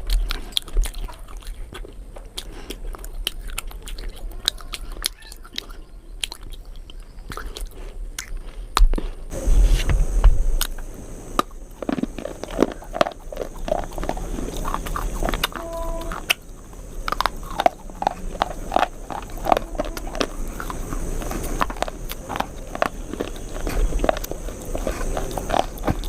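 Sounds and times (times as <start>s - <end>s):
person chewing food: 0.0s - 9.4s, 10.6s - 26.0s.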